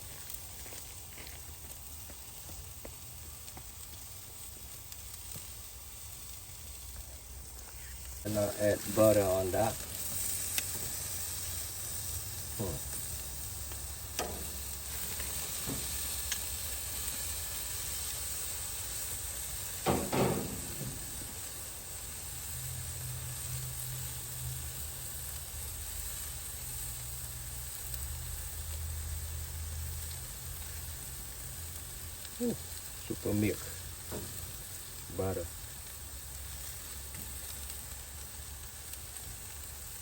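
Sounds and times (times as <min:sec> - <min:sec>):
steaks sizzling on a grill: 0:00.0 - 0:40.0.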